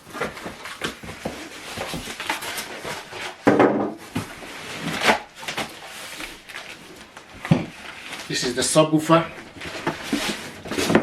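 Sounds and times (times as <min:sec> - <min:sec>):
cardboard rustling: 0:00.0 - 0:11.0.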